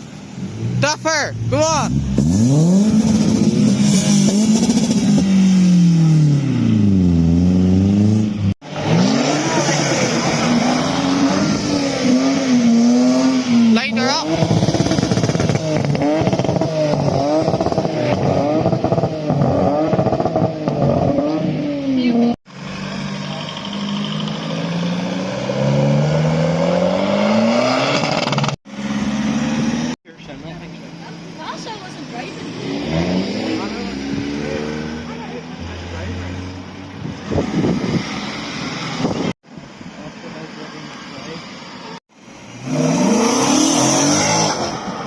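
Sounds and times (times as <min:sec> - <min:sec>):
car engine revving: 0:00.0 - 0:39.4, 0:42.2 - 0:45.0.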